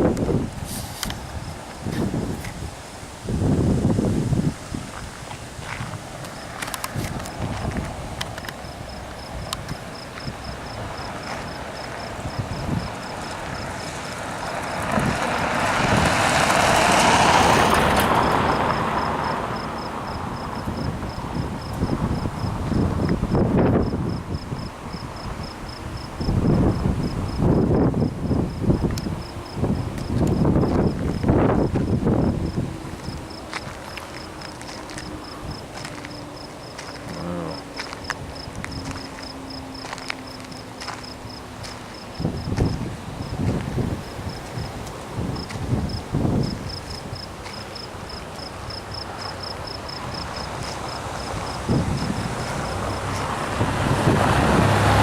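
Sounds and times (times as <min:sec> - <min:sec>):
crickets chirping: 0:00.0 - 0:55.0
low wind rumble: 0:00.0 - 0:55.0
vehicle passing: 0:00.0 - 0:55.0.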